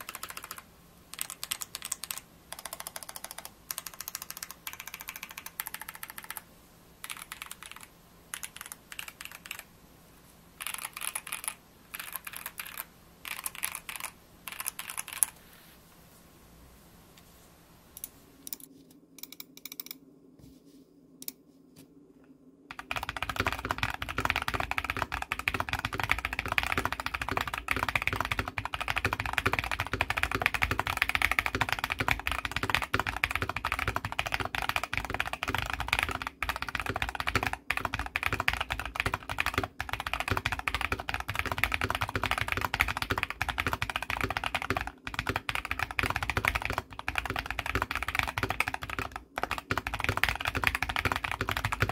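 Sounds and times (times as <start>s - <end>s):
mechanical keyboard typing: 0.0s - 6.4s, 7.0s - 9.7s, 10.6s - 15.4s, 22.7s - 51.9s.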